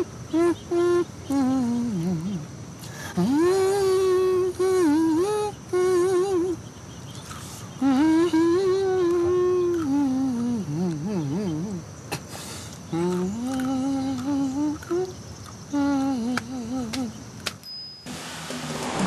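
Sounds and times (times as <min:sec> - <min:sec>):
man humming a tune: 0:00.0 - 0:06.6, 0:07.8 - 0:12.3, 0:12.9 - 0:17.3.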